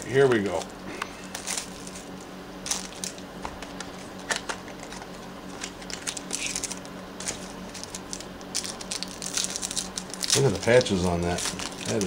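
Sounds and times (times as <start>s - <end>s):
trading cards crackling: 0.0s - 12.0s.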